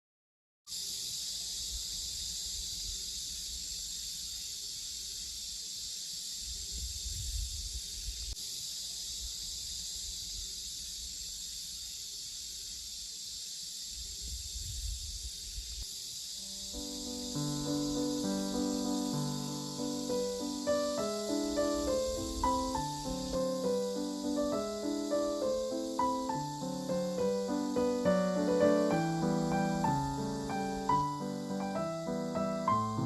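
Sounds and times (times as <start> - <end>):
cicadas droning: 0.7 - 33.0.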